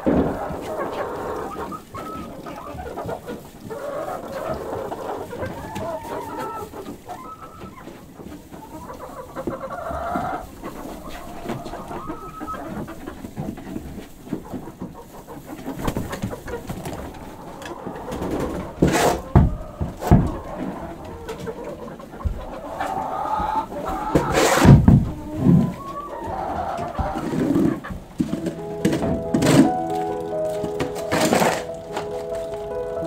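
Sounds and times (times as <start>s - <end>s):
hens clucking: 0.0s - 33.0s.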